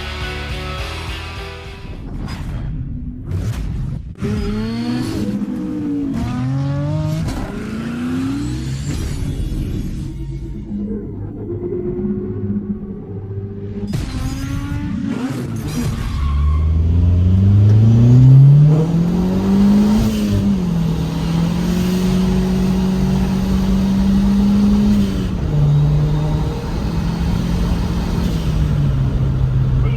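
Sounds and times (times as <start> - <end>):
car engine accelerating: 4.2 - 29.9.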